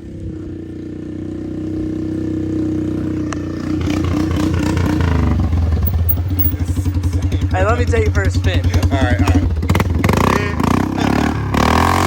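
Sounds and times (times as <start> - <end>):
loud atv engine running: 0.0 - 12.0.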